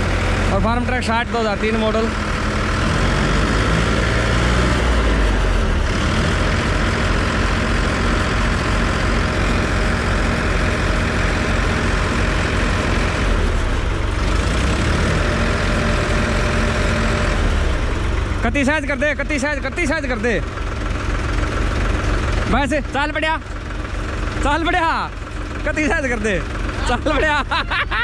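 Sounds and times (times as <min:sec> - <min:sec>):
tractor diesel engines under load: 0:00.0 - 0:28.0.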